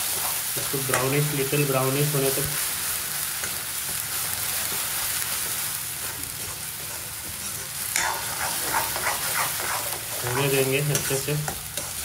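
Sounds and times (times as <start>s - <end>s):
spatula stirring stroke: 0.0s - 2.6s, 3.4s - 12.0s
onion paste sizzling in oil: 0.0s - 12.0s.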